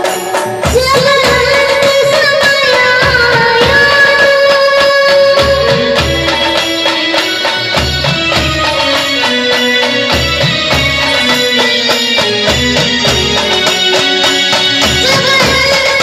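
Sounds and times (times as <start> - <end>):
instrumental band music: 0.0 - 16.0.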